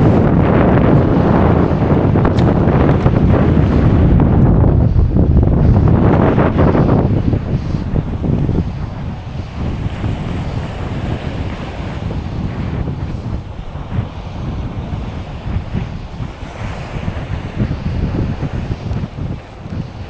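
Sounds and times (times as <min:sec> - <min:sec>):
waves on beach: 0:00.0 - 0:20.0
wind buffeting microphone: 0:00.0 - 0:20.0.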